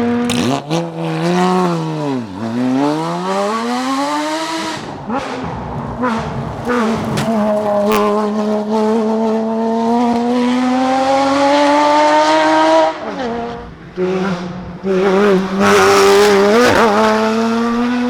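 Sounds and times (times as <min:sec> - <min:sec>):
car engine at full throttle: 0:00.0 - 0:18.0.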